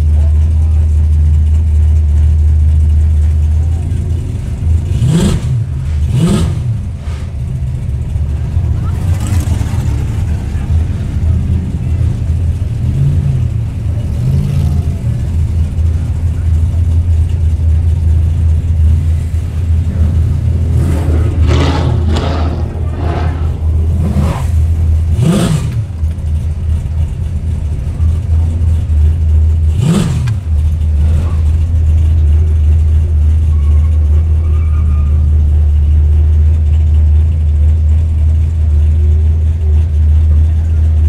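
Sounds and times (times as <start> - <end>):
car engine rumbling: 0.0 - 41.0
engine throttle blips: 0.0 - 41.0.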